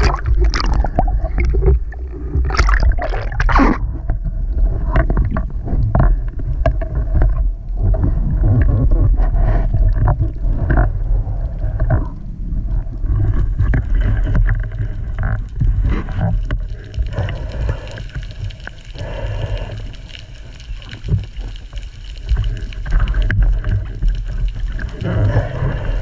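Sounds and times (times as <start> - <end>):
underwater rumble of moving water: 0.0 - 26.0.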